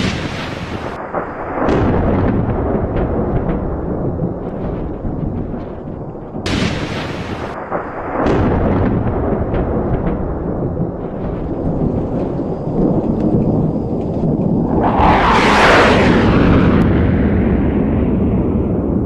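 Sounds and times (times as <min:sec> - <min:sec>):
thunder crack: 0:00.0 - 0:19.0
thunder rumble: 0:00.0 - 0:19.0.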